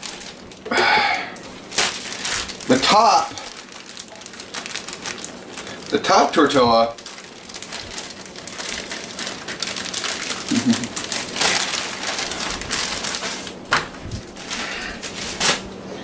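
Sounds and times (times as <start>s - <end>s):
plastic packaging crinkling: 0.0s - 15.8s.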